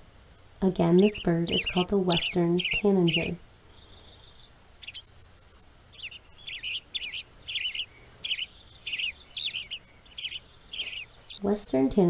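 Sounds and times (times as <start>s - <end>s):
songbird chirping: 0.2s - 12.0s.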